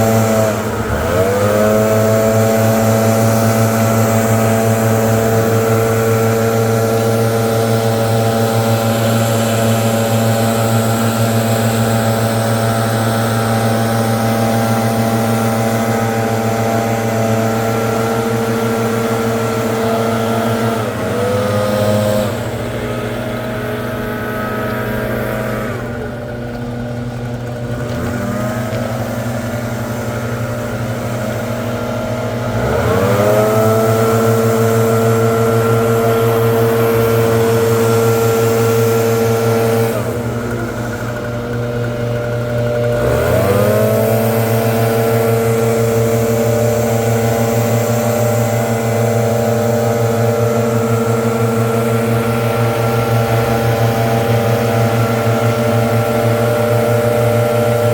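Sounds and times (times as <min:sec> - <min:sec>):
leaf blower engine revving: 0:00.0 - 0:57.9.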